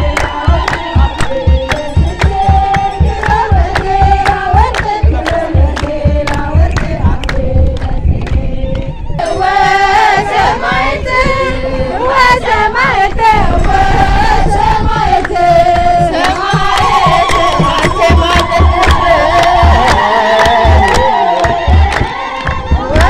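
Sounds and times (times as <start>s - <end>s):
crowd singing a hymn: 0.0s - 23.0s
low drum beats: 0.0s - 23.0s.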